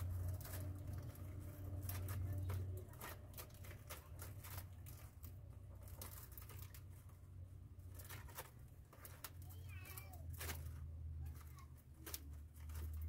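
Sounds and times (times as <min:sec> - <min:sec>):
palm strips rustling and crackling: 0:00.0 - 0:13.0.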